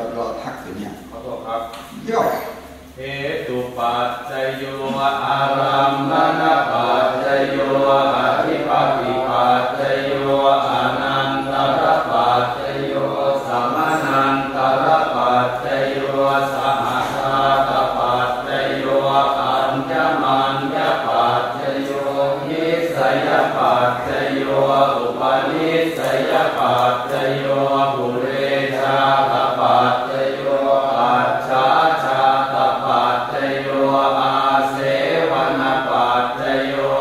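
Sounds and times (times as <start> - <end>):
voices chanting prayers: 0.0 - 37.0.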